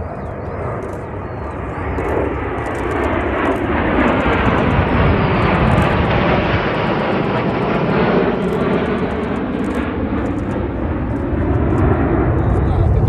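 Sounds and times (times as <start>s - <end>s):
aircraft engine flying past: 0.0s - 13.0s.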